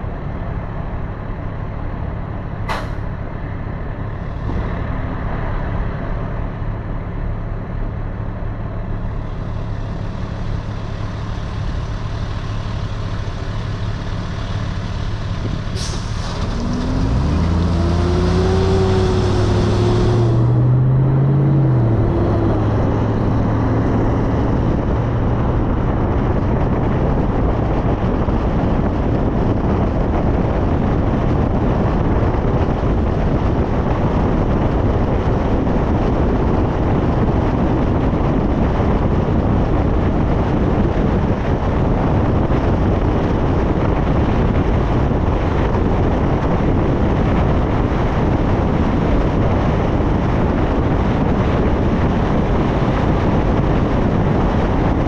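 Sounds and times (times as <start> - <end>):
low hum: 0.0 - 45.3
car wind and road noise: 0.0 - 55.0.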